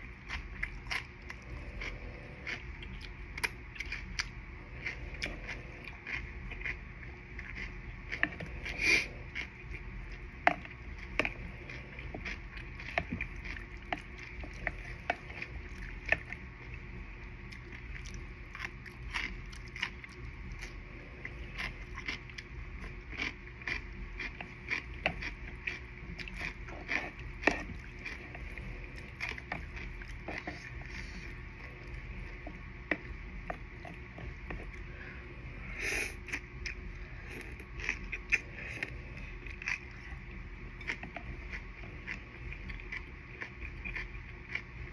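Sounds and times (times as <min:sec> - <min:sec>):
chewing with mouth clicks: 0:00.0 - 0:34.9, 0:36.0 - 0:44.9.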